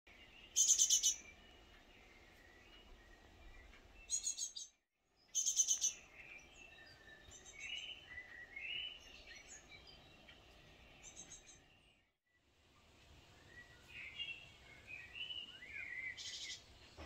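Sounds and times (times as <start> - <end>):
birds chirping rapidly: 0.1 - 12.1, 13.3 - 17.0.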